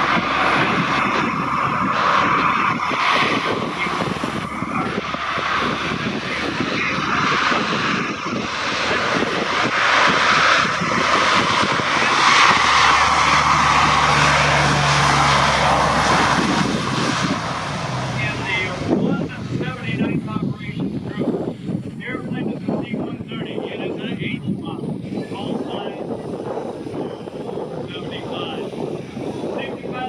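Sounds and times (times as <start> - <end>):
aircraft engine running: 0.0 - 30.0.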